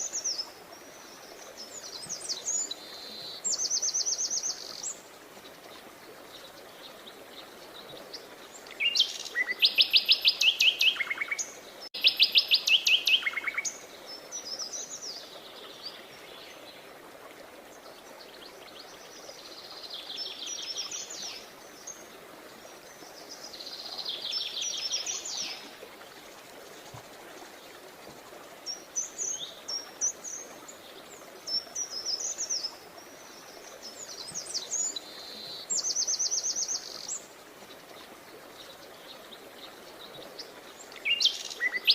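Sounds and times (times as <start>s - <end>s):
faint steady hiss: 0.0s - 41.9s
songbirds trilling and chirping: 0.0s - 41.9s.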